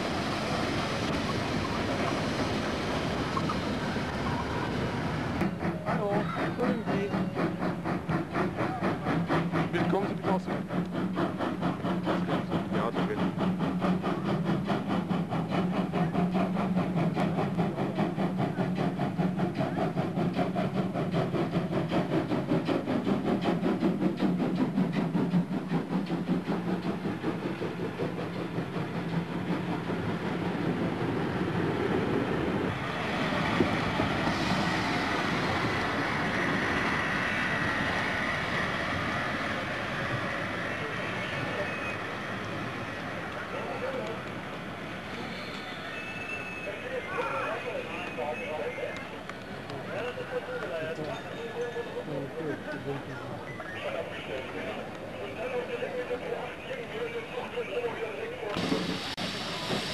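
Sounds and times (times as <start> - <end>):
steam locomotive hiss: 0.0 - 54.2, 58.6 - 59.9
steam locomotive beats and clanking: 0.0 - 57.8, 58.5 - 59.9.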